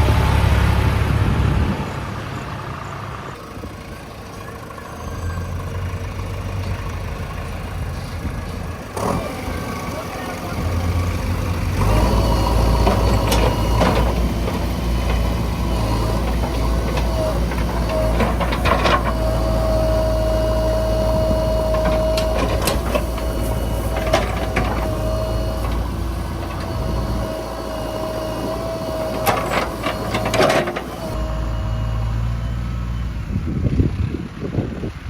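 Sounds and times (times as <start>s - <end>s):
diesel engine running under load: 0.0s - 35.0s.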